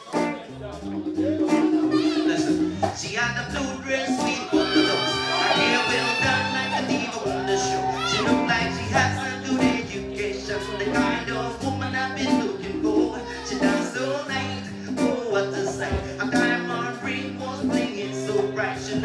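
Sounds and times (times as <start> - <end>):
bass: 0.0 - 19.0
drums: 0.0 - 19.0
electric guitar: 0.0 - 19.0
man singing: 0.0 - 19.0.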